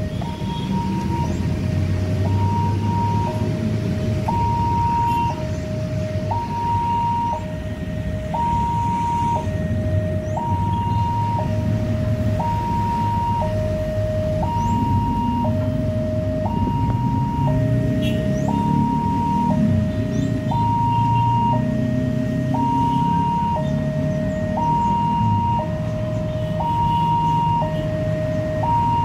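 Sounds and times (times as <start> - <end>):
level crossing alarm two-tone: 0.0 - 29.0.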